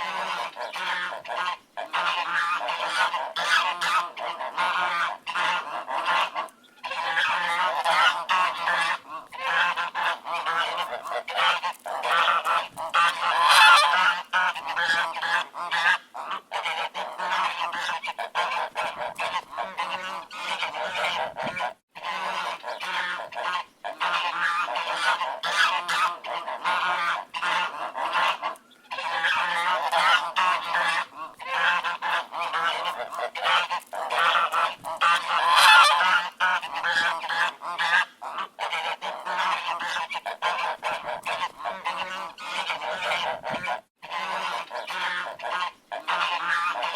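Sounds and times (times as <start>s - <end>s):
ducks quacking: 0.0s - 46.9s.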